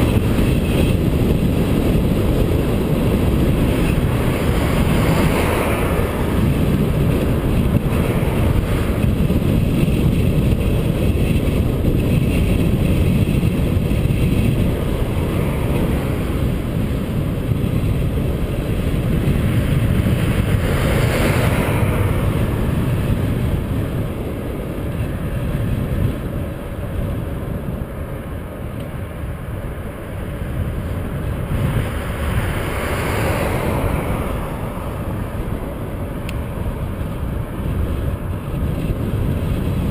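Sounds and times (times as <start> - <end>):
cars passing by: 0.0 - 39.9
wind buffeting microphone: 0.0 - 39.9.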